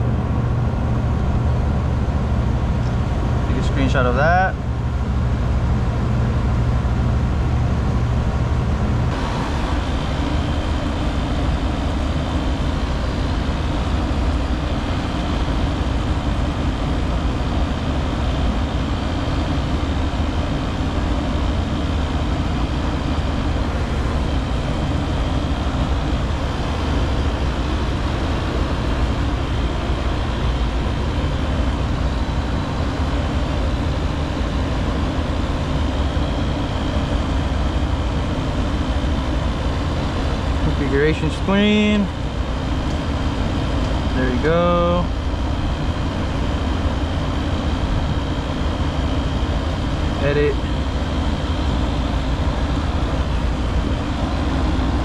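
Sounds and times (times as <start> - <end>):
hvac equipment humming: 0.0 - 55.0.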